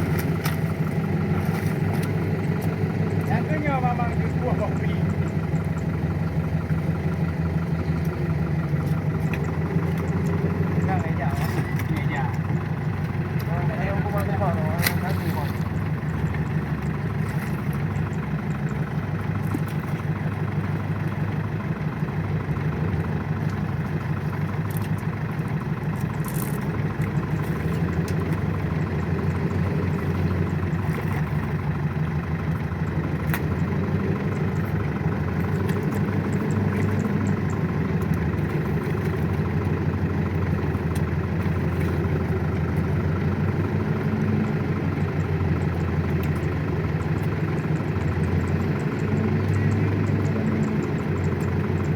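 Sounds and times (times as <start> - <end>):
tractor engine droning: 0.0 - 51.9.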